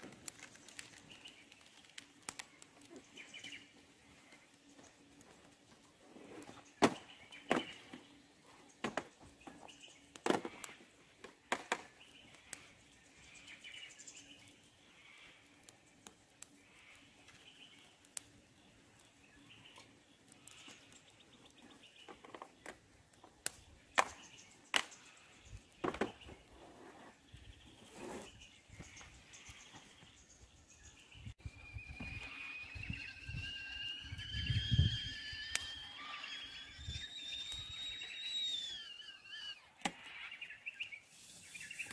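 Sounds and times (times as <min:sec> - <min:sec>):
birds chirping: 0:00.3 - 0:41.9.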